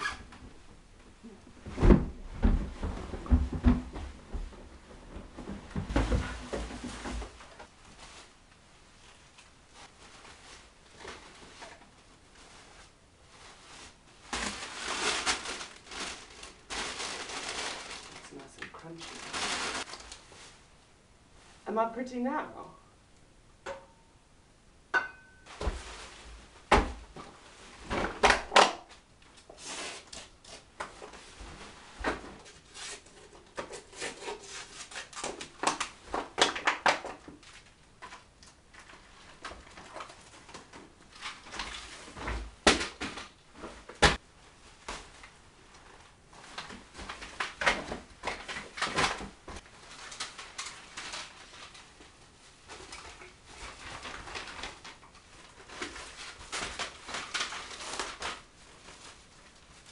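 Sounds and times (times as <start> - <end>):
rustling paper and plastic: 2.3 - 20.7, 25.5 - 59.9.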